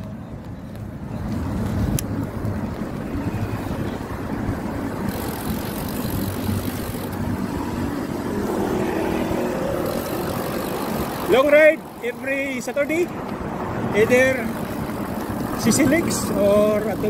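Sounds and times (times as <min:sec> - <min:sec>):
tyre and road noise: 0:00.0 - 0:17.0.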